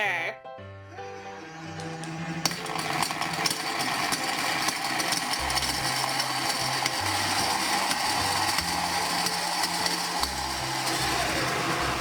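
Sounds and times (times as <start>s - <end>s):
toy blender motor running: 1.8s - 12.0s.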